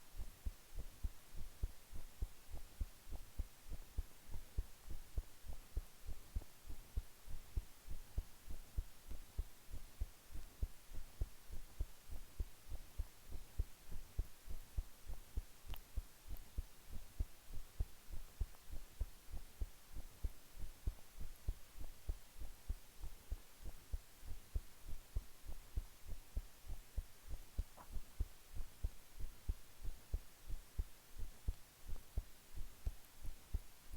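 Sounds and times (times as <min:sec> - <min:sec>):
heart beating: 0:00.0 - 0:33.7.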